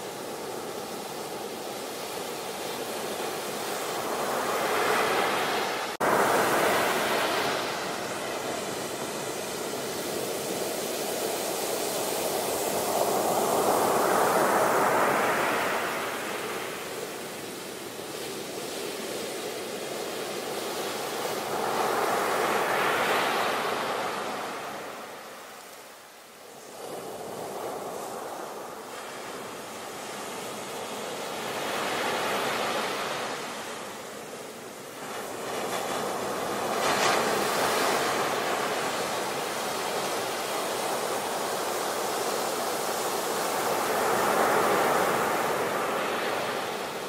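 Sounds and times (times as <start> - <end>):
ocean surf breaking: 0.0 - 25.6, 26.5 - 47.0.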